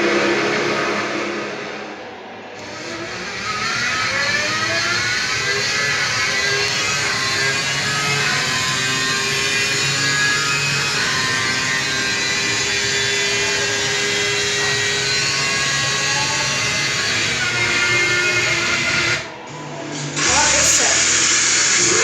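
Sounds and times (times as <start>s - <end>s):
racing car engine screaming: 2.6s - 22.0s.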